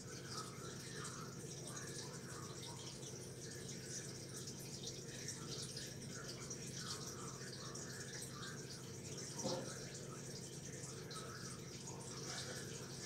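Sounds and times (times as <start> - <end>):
water filter humming: 0.0 - 13.0
water trickling and dripping: 0.0 - 13.0.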